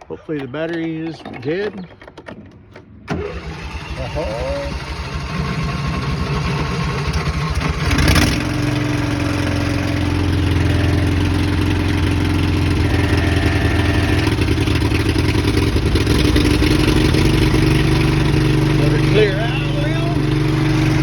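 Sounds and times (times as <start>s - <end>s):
boat engine starting and running: 0.0s - 21.0s.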